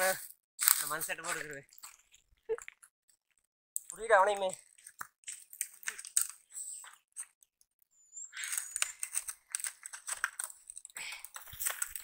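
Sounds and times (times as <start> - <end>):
dry wood and leaves crackling: 0.0 - 7.4, 8.4 - 12.0.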